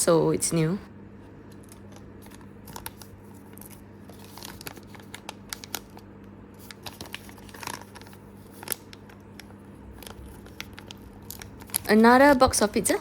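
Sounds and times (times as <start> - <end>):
toy packaging crinkling: 1.7 - 13.0.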